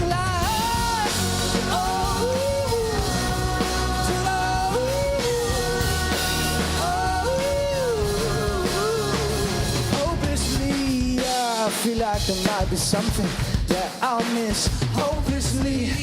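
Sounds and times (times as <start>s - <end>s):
live pop-rock band playing: 0.0s - 16.0s.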